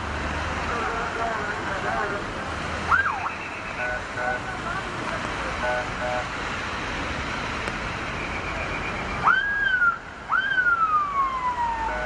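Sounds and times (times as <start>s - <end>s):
crowd and vehicle rumble: 0.0s - 12.0s.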